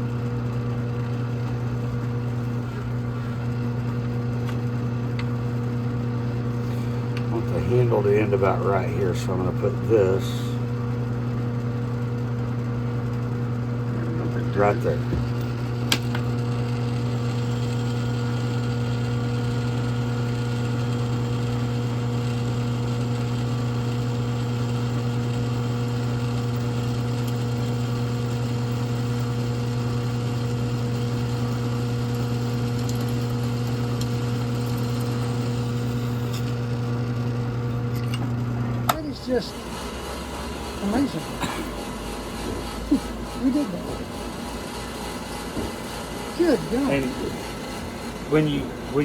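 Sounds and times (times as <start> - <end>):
electric motor humming: 0.0 - 49.0.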